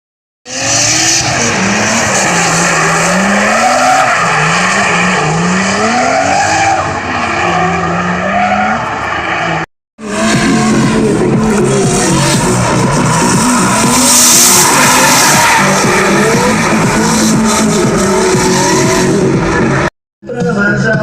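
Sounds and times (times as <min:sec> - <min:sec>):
car engine revving: 0:00.5 - 0:19.9.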